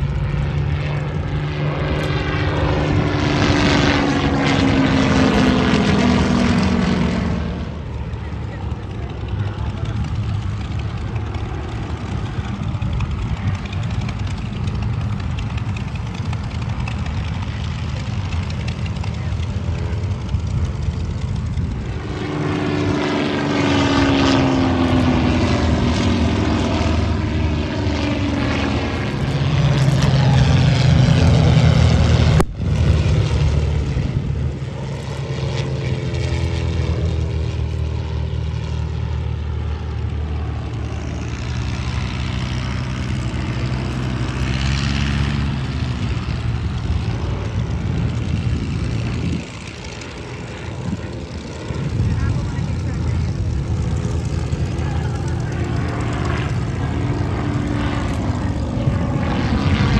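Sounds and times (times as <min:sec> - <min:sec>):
propeller planes droning overhead: 0:00.0 - 0:59.9.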